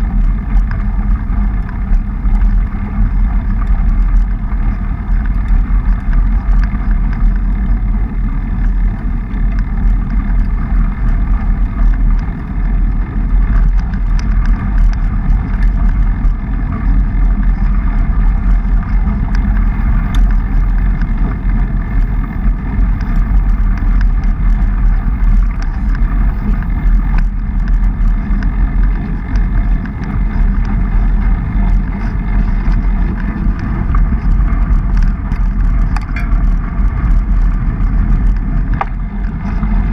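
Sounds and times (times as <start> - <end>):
bike clicks and rattles on gravel: 0.0 - 39.9
wind buffeting: 0.0 - 39.9.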